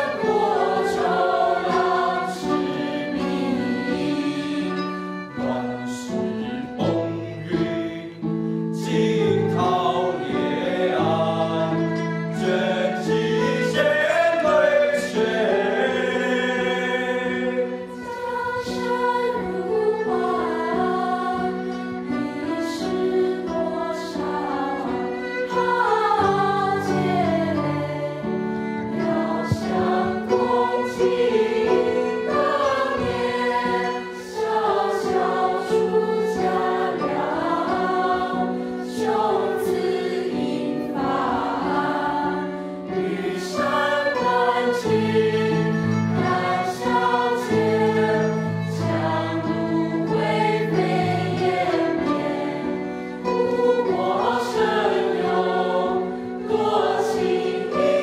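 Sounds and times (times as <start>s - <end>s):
youth choir singing: 0.0s - 8.1s, 8.8s - 58.0s.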